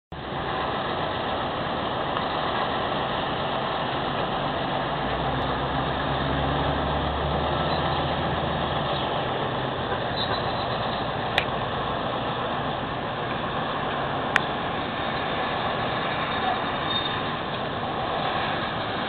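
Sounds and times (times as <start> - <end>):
distant turboprop aircraft drone: 0.1 - 19.0
low propeller hum: 0.1 - 19.0.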